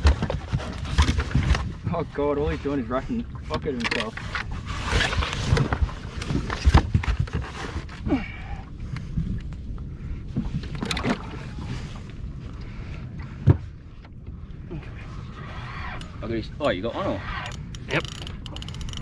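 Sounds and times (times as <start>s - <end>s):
water slapping against hull: 0.0s - 8.1s, 8.8s - 19.0s
wind rumbling on microphone: 0.0s - 19.0s.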